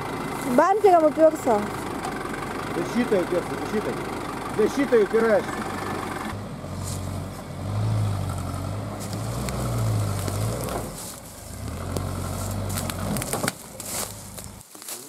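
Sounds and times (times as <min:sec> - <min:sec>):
van engine revving in low gear: 0:00.0 - 0:14.6.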